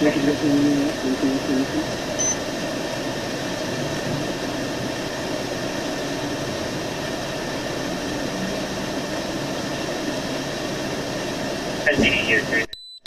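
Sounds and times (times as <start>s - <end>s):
steady rushing noise: 0.0s - 12.7s
low hum: 0.0s - 13.0s.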